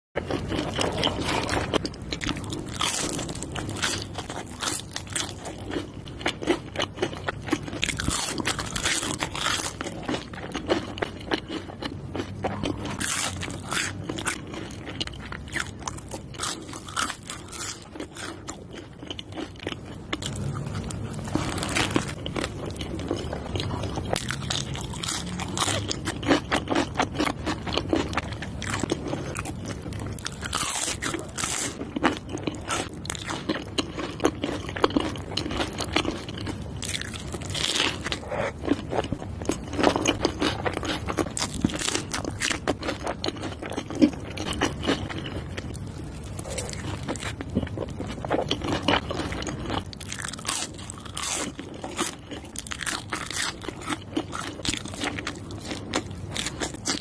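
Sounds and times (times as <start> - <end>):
crunching and chewing food: 0.2 - 57.0.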